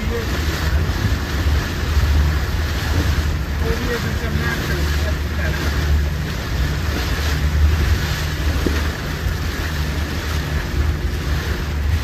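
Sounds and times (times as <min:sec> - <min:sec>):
boat engine droning: 0:00.0 - 0:12.0
water noise: 0:00.0 - 0:12.0
wind on microphone: 0:00.0 - 0:12.0.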